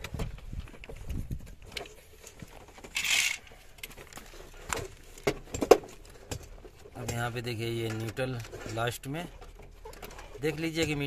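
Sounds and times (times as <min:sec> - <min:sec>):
hands handling plastic and cables: 0:00.0 - 0:11.0.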